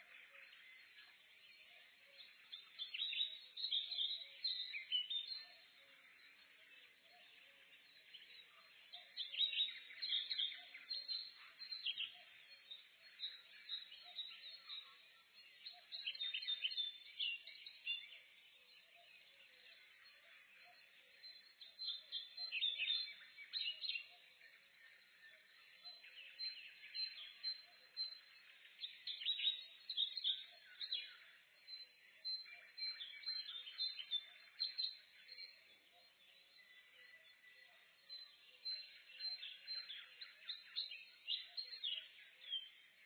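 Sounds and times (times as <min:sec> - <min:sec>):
birds chirping nearby: 0:00.0 - 0:43.0
distant birdsong: 0:00.0 - 0:43.0.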